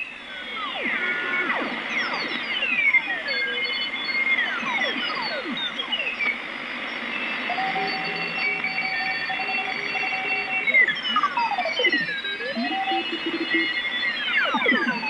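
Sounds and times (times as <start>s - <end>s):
radio band hiss: 0.0s - 15.0s.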